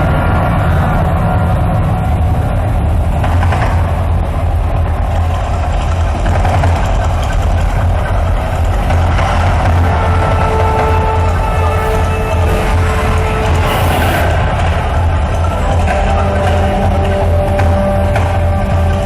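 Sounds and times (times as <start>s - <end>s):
deep rumble: 0.0s - 19.0s.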